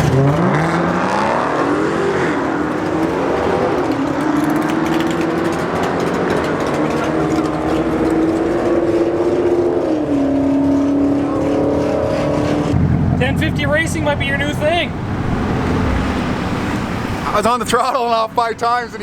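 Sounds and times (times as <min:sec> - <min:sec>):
racing car engines at full throttle: 0:00.0 - 0:19.0.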